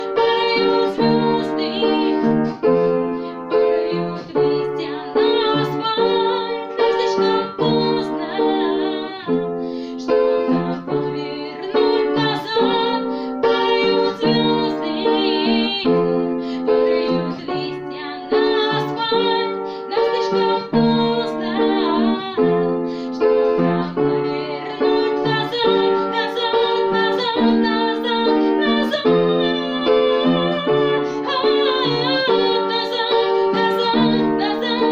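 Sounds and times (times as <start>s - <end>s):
piano playing pop-rock song: 0.0s - 34.9s.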